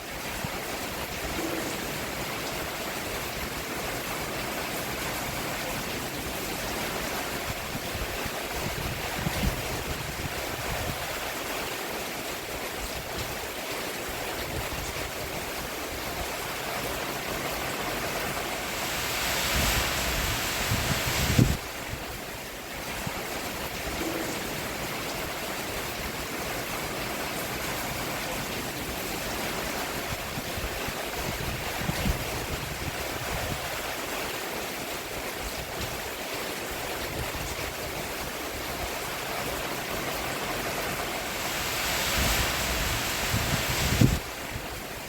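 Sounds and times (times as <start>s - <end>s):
rain on a roof: 0.0s - 45.0s.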